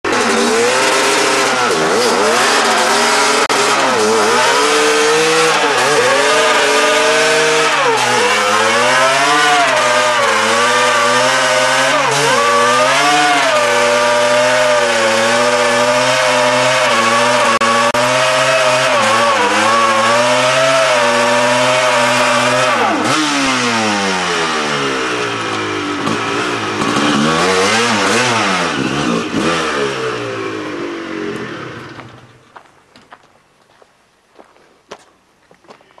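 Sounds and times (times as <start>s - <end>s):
dirt bike engine revving: 0.0s - 32.4s.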